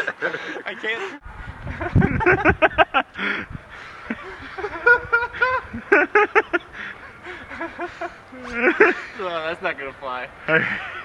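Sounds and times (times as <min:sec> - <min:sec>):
young men laughing: 0:00.0 - 0:11.0.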